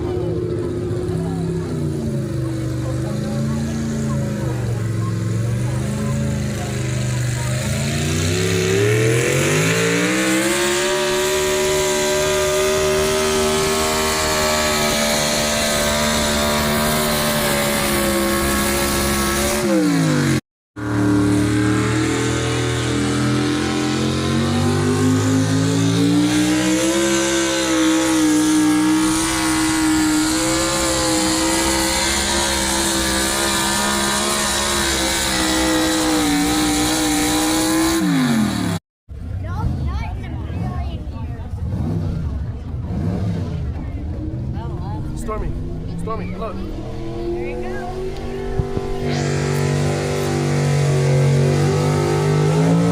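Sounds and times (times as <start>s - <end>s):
pulling vehicle engine revving: 0.0s - 52.9s.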